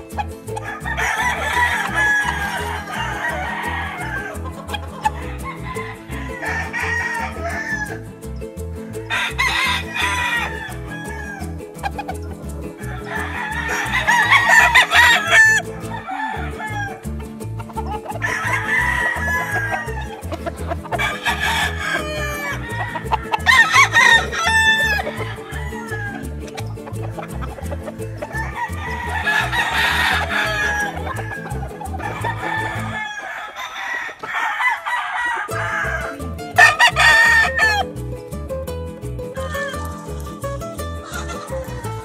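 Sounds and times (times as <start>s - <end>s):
roosters crowing: 0.5s - 8.1s, 9.1s - 12.1s, 12.8s - 37.9s, 39.4s - 40.3s, 41.0s - 42.0s.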